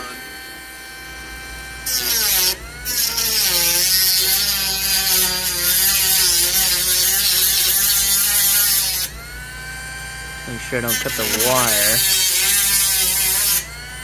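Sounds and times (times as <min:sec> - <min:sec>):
power tool cutting: 0:00.0 - 0:14.0.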